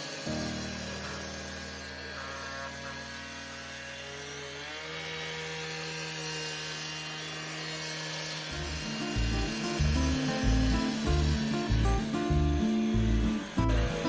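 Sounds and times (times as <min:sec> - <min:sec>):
power saw cutting concrete: 0:00.0 - 0:14.0.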